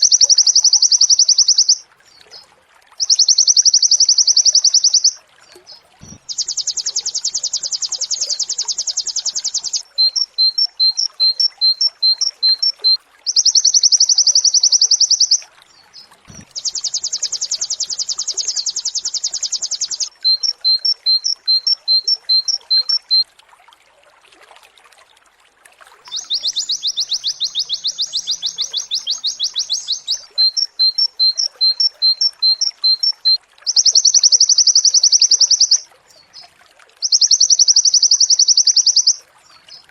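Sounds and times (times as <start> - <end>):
bird short repeated chirps: 0.0 - 2.4, 3.0 - 15.4, 16.0 - 23.2, 26.1 - 35.8, 36.4 - 39.8
bird rapid trills: 0.0 - 23.2, 26.1 - 39.8.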